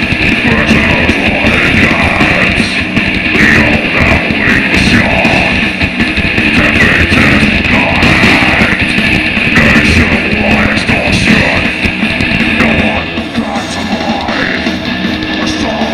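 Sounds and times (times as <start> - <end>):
death metal band playing live: 0.0 - 15.9
heavy distorted electric guitars: 0.0 - 15.9.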